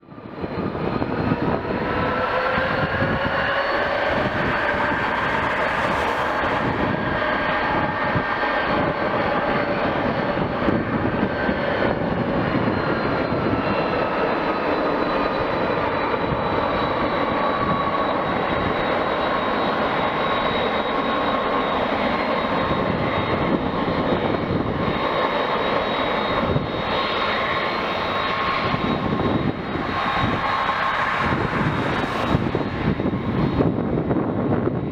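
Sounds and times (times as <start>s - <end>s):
jet engine roar and whine: 0.0s - 34.9s.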